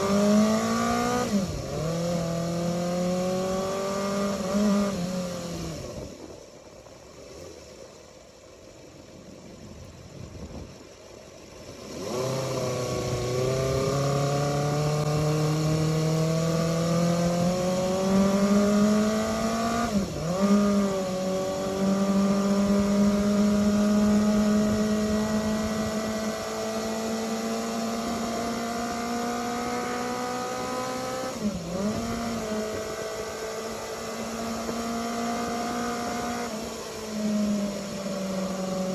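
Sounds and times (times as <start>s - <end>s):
motorcycle engine accelerating: 0.0s - 6.2s, 11.7s - 38.9s.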